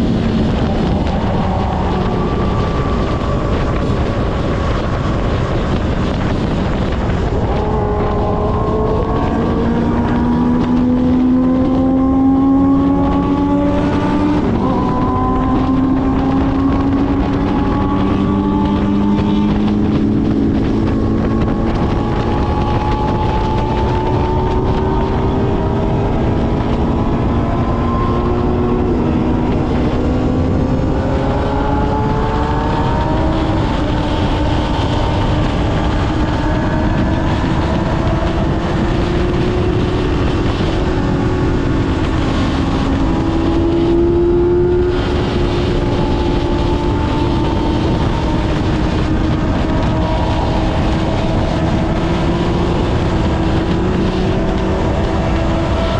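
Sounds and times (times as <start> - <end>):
motorcycle engine running: 0.0 - 55.9
rushing noise: 0.0 - 55.9.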